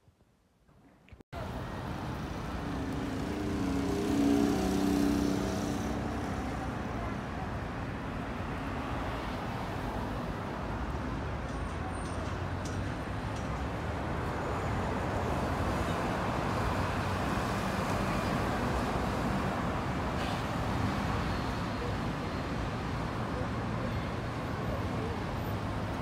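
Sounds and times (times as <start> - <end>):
road traffic noise: 1.3 - 26.0.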